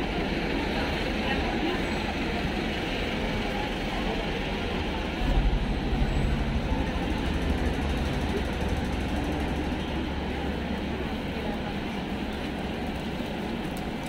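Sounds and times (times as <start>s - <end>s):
steady traffic noise: 0.0s - 14.0s
passing vehicle rumble: 2.2s - 13.6s.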